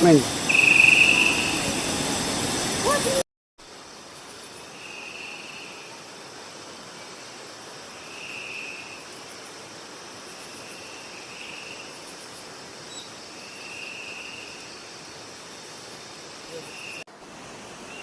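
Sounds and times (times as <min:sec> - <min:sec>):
background hiss: 0:00.0 - 0:18.0
insects chirring: 0:00.0 - 0:18.0.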